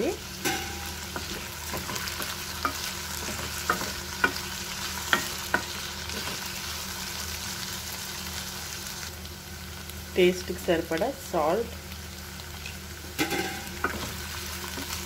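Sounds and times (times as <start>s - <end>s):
vegetables frying in oil: 0.0s - 15.0s.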